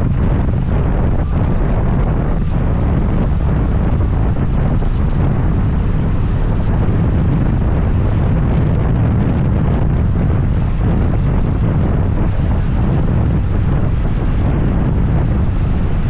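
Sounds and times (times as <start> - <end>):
scooter road and engine noise: 0.0 - 16.0
wind rumble on microphone: 0.0 - 16.0.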